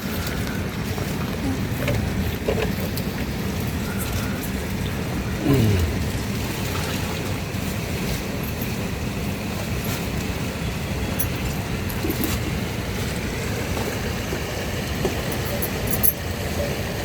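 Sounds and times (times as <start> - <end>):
low rumbling noise: 0.0 - 15.6.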